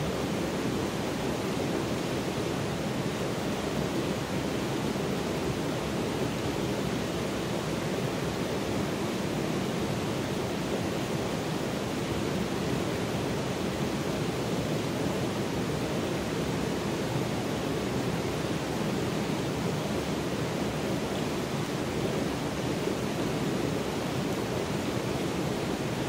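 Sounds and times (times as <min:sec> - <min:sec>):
stream flowing over rocks: 0:00.0 - 0:26.0.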